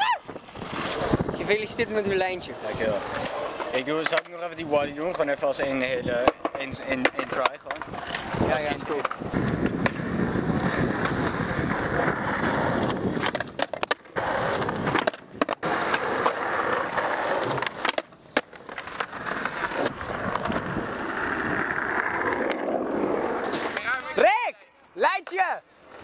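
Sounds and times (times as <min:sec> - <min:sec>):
skateboard wheels rolling on concrete: 0:00.0 - 0:26.0.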